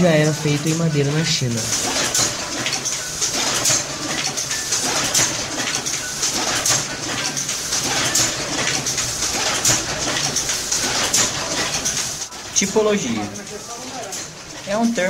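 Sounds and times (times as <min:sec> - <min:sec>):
printing press clacking: 0:00.0 - 0:15.0.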